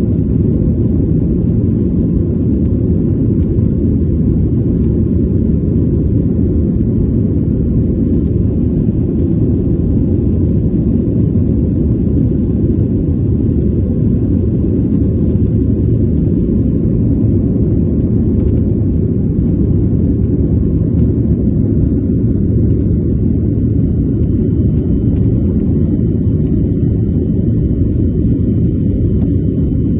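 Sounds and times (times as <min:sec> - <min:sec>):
jet engines rumbling: 0:00.0 - 0:29.9.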